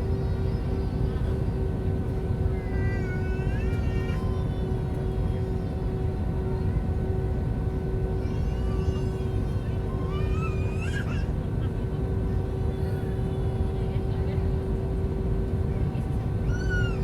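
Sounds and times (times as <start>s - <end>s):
constant hum tone: 0.0s - 17.0s
airliner cabin rumble: 0.1s - 17.0s.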